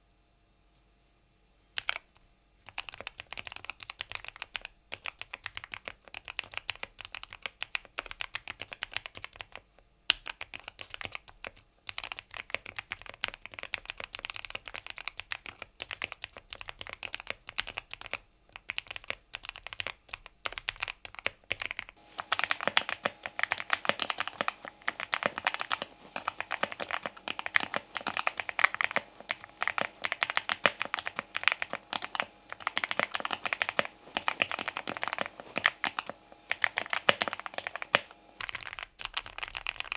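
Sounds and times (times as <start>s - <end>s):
mechanical keyboard typing: 2.7s - 39.9s.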